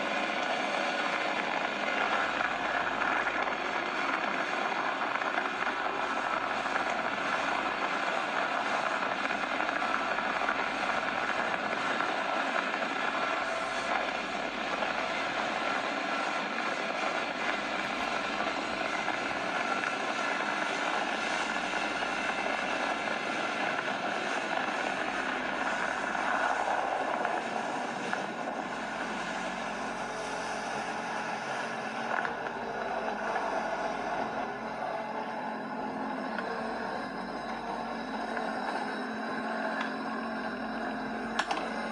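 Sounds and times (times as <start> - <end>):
jet ski engine drone: 0.0 - 41.9.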